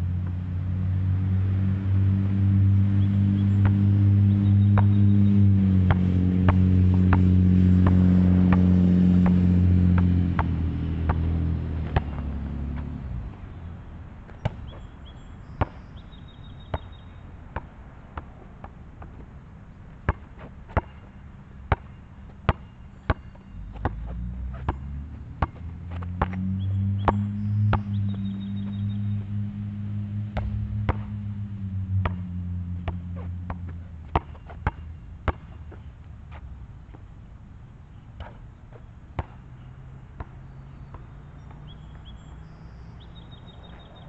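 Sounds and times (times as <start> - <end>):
basketball bouncing on asphalt: 1.4 - 37.1, 37.9 - 44.0.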